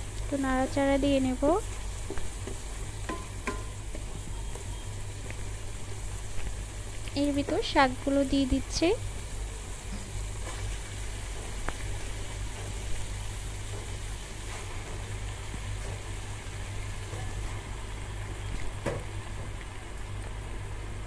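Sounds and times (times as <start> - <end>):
faint frying sizzle: 0.0 - 21.0.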